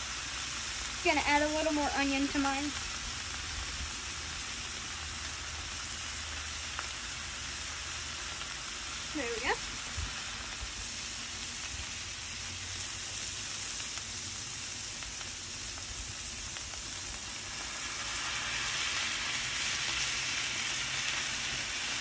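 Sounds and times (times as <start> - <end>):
patties sizzling on a griddle: 0.0 - 22.0.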